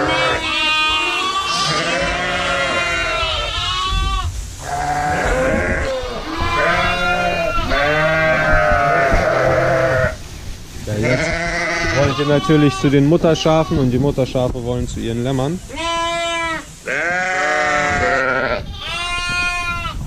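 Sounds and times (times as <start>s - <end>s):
sheep bleating: 0.0s - 10.2s, 11.0s - 13.9s, 15.7s - 20.0s.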